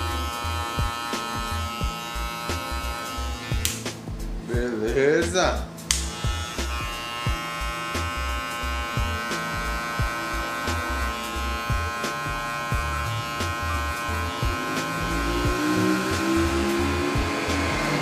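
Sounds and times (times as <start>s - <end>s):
background music with low beat: 0.0s - 18.0s
electric hair clipper humming: 0.0s - 18.0s.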